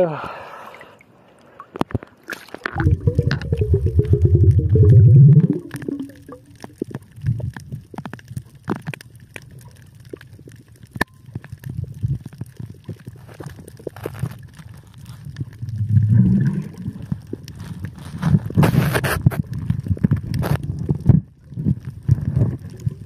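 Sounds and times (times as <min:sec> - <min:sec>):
underwater clicks and crackles: 0:00.2 - 0:23.0
underwater bubbles gurgling: 0:00.8 - 0:23.0.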